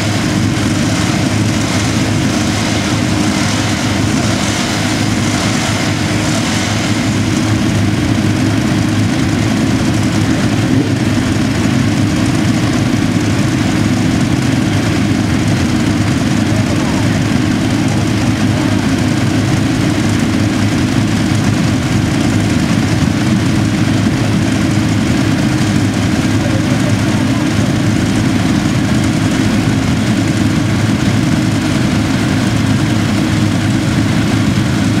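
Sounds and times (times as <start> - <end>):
motorcycles idling: 0.0 - 35.0.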